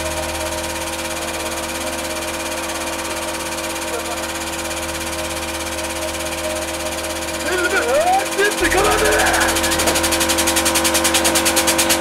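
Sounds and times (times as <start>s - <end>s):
hydraulic pump motor humming: 0.0s - 12.0s.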